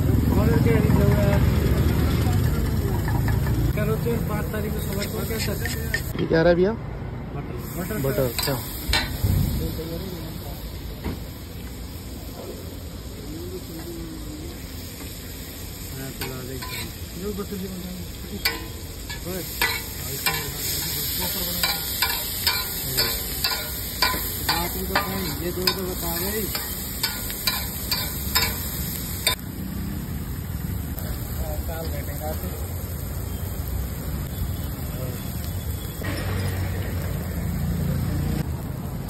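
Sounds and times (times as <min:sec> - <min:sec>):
vegetables sizzling on griddle: 0:00.0 - 0:06.7, 0:07.5 - 0:39.0.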